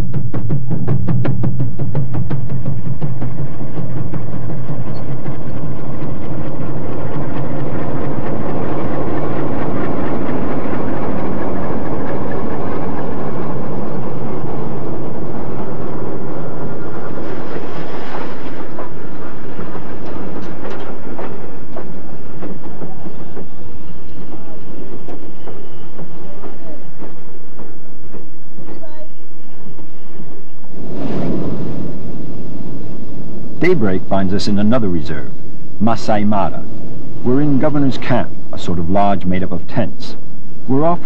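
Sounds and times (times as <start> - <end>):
train wheels rumbling: 0.0 - 40.2
diesel locomotive engine hum: 0.0 - 41.0.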